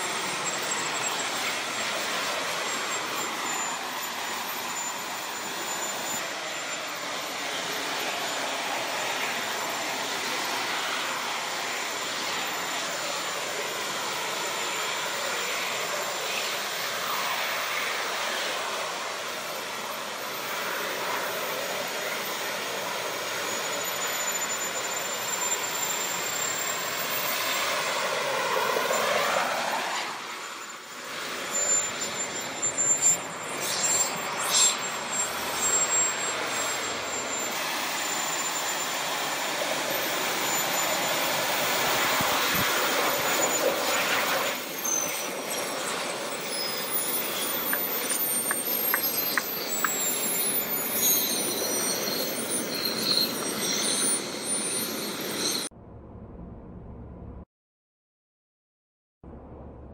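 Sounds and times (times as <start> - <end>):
high turbine whine falling: 0.0 - 57.4, 59.3 - 59.9
jet turbines running: 0.0 - 57.4.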